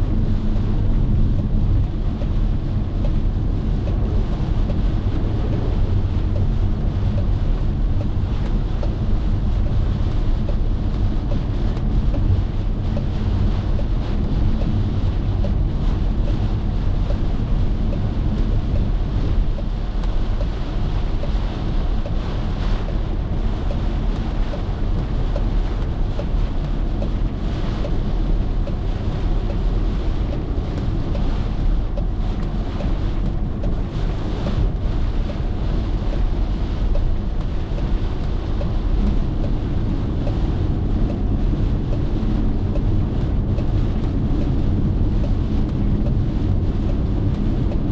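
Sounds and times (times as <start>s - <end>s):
car road and wind rumble: 0.0s - 47.9s.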